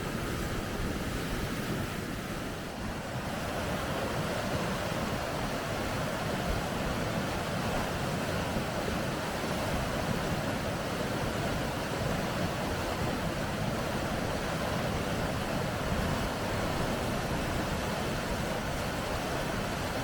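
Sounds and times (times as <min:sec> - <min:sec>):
rushing water of river rapids: 0:00.0 - 0:20.0.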